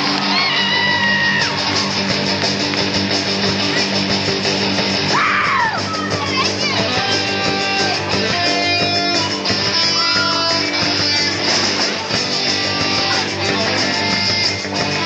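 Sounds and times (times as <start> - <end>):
live band playing: 0.0 - 15.0
strummed guitars: 0.0 - 15.0.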